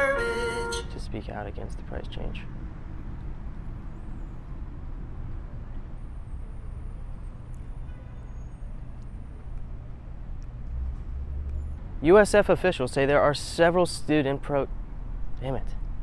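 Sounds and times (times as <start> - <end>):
low rumble of distant traffic: 0.0 - 16.0.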